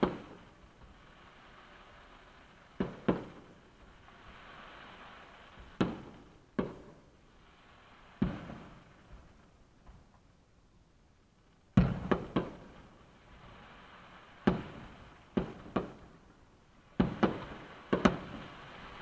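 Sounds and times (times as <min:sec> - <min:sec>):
fireworks bursting with bangs: 0:00.0 - 0:10.4, 0:11.4 - 0:19.0.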